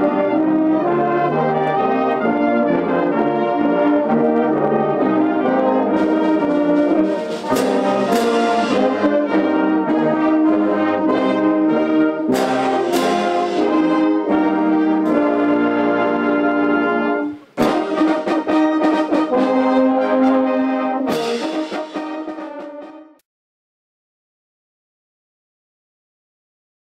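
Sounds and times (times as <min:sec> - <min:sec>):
brass band playing: 0:00.0 - 0:23.2.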